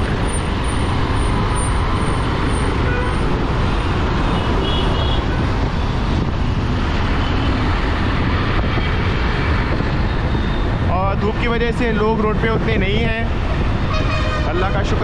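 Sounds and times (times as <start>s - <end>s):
surrounding traffic: 0.0s - 15.0s
wind rush: 0.0s - 15.0s.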